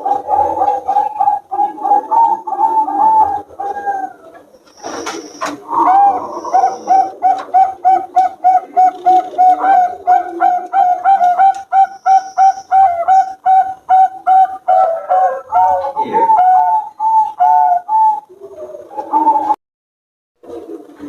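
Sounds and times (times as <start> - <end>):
doves cooing: 0.0 - 19.6, 20.4 - 21.0.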